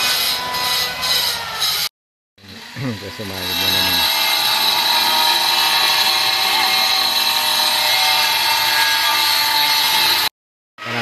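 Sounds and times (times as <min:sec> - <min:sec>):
power tool motor whining: 0:00.0 - 0:11.0.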